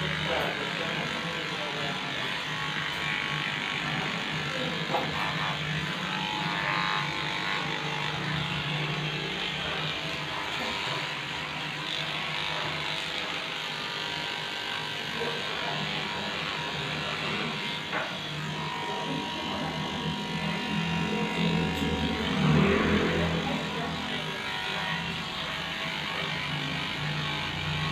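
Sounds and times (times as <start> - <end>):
electric clippers running: 0.0 - 27.9.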